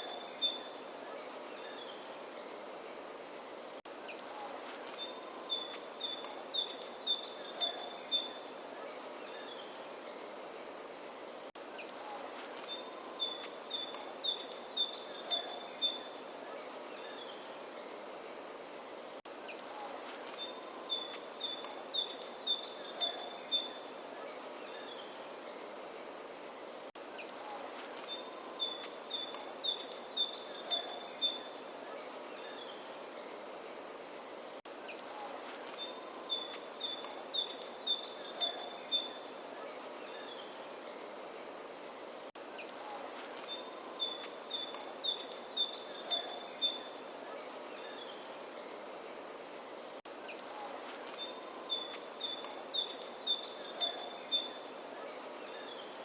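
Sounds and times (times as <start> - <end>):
songbird singing: 0.0 - 56.0
steady outdoor hiss: 0.0 - 56.0.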